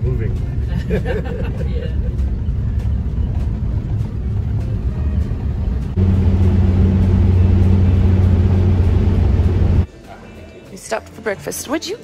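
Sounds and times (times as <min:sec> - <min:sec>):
vehicle engine and road drone: 0:00.0 - 0:09.9.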